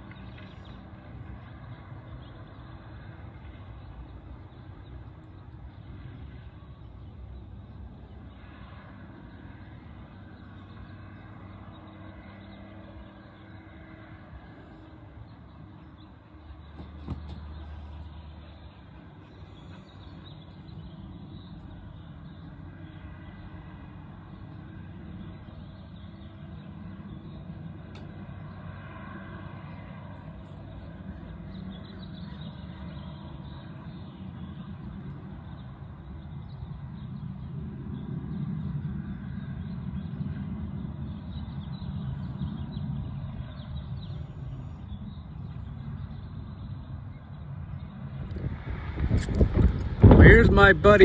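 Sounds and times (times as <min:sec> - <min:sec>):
distant diesel machine droning: 0:00.0 - 0:51.0.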